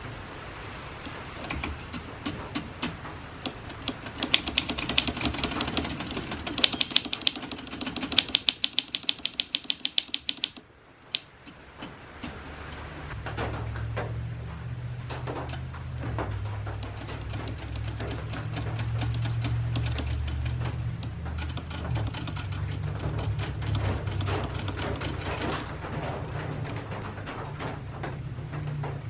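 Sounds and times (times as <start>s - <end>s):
typewriter clacking: 1.0s - 13.0s, 15.1s - 27.8s.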